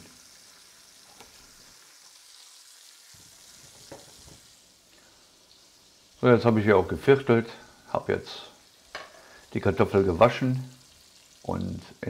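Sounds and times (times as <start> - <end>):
bacon sizzling in a pot: 0.0 - 12.0.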